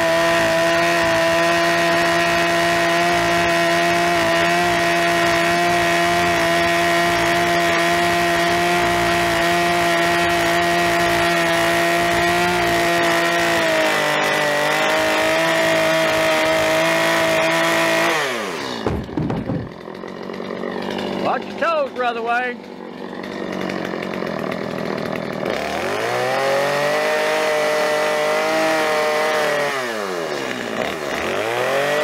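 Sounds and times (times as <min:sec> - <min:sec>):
chainsaw cutting through log: 0:00.0 - 0:32.0.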